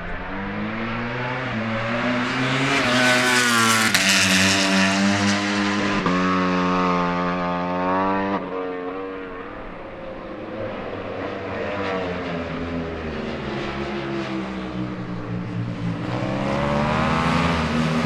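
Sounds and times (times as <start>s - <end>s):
motorcycle engines at race pace: 0.0s - 18.0s.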